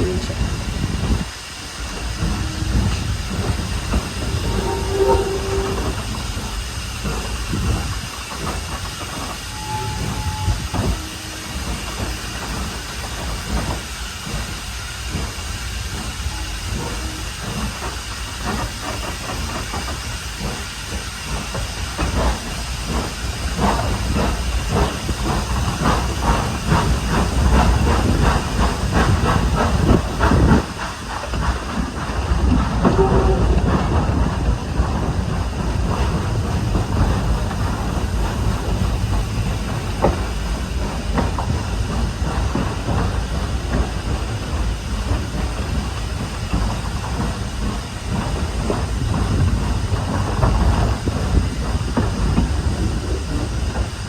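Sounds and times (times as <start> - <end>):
steam hissing: 0.0 - 54.0
steam locomotive chuffing: 0.0 - 54.0.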